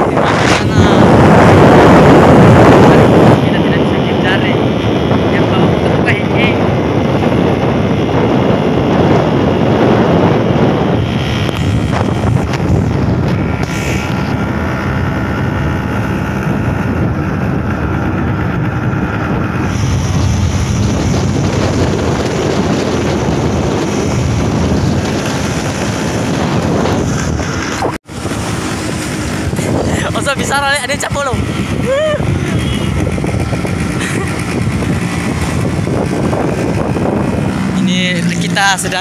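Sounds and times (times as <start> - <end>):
motorcycle engine running: 0.0 - 39.0
wind buffeting microphone: 0.0 - 39.0.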